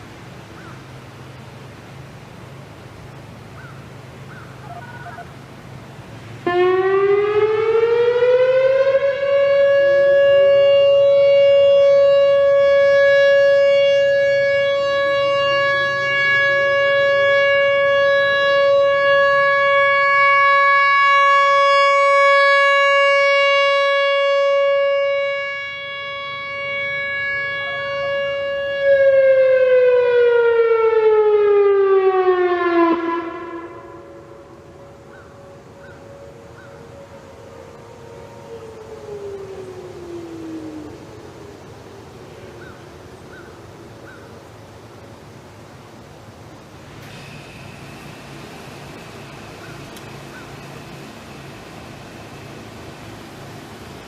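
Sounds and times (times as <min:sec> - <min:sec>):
electronic warning siren: 0:04.6 - 0:05.4, 0:06.4 - 0:43.4, 0:46.8 - 0:54.0.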